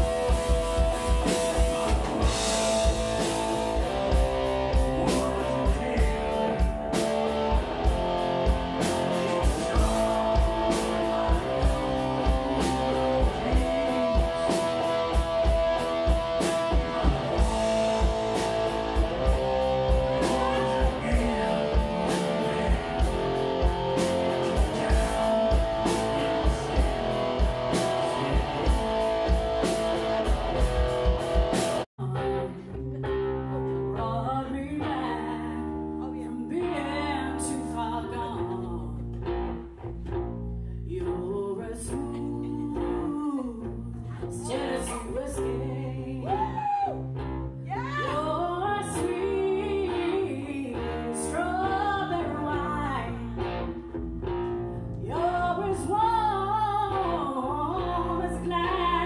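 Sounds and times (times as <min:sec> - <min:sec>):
rock song with singing: 0:00.0 - 0:39.5, 0:40.8 - 0:59.0
rock electric guitar: 0:00.0 - 0:59.0.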